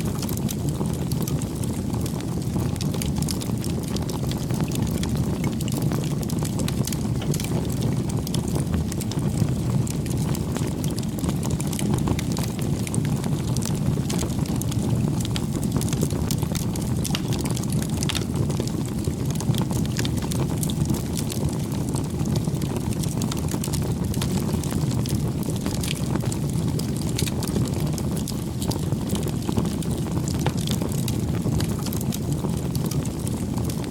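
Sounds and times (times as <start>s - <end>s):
campfire burning: 0.0s - 33.9s
wood crackling and popping: 0.0s - 33.9s.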